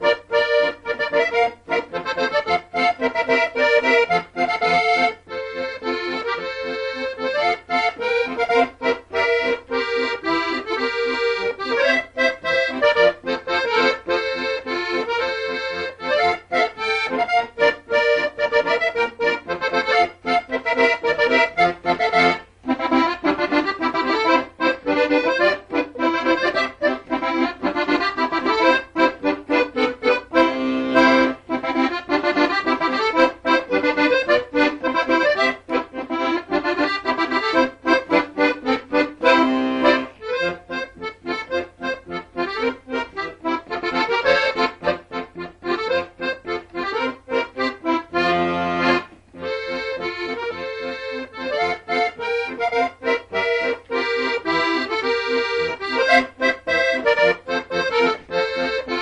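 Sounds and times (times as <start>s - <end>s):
instrumental background music: 0.0s - 59.0s.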